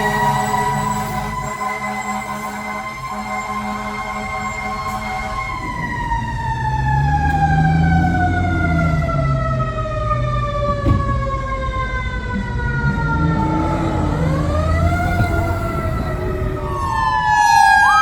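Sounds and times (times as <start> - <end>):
mechanical siren winding down: 0.0 - 18.0
truck engine rumbling: 0.0 - 18.0.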